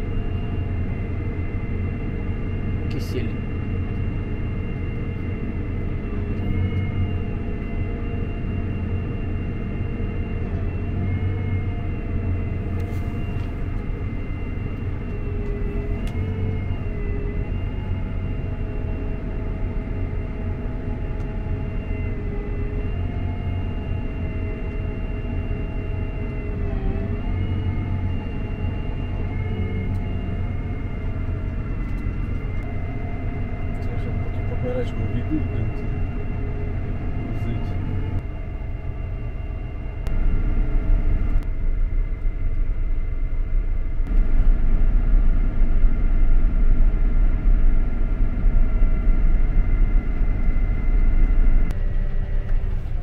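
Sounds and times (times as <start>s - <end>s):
engine rumble: 0.0s - 53.0s
high machinery whine: 0.0s - 53.0s.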